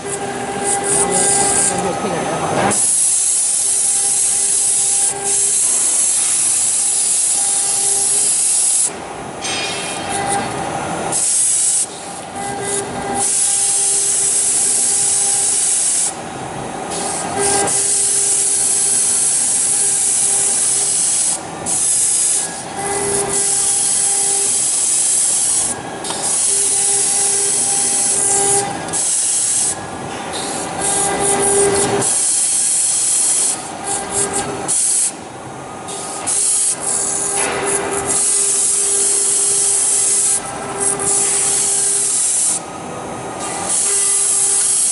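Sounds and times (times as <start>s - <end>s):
router cutting plastic sheet: 0.0s - 16.2s, 16.8s - 35.2s, 35.8s - 44.9s.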